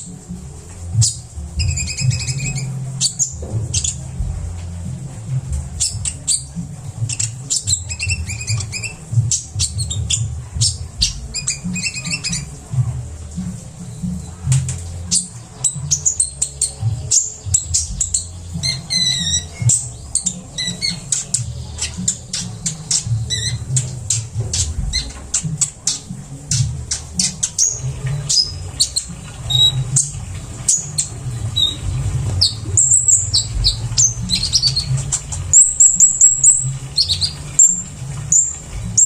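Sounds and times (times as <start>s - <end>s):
steady low hum: 0.0s - 39.0s
sunbird singing chirps and trills: 0.0s - 39.0s.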